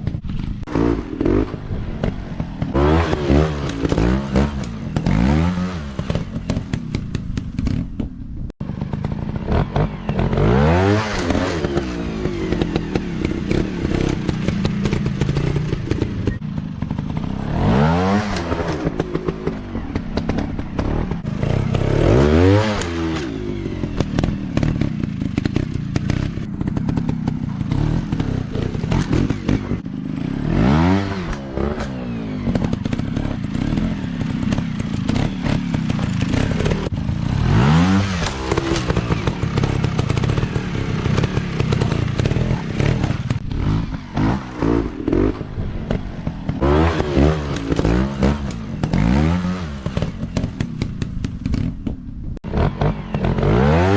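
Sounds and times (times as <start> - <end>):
dirt bike engines revving: 0.0 - 8.0, 8.6 - 53.9
knocks and clatter: 0.0 - 10.5, 11.1 - 53.6.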